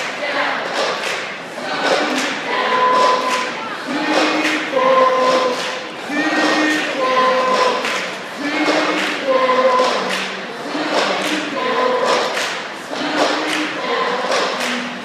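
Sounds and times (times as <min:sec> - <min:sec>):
choir singing: 0:00.0 - 0:15.0
steady beat: 0:00.0 - 0:15.0.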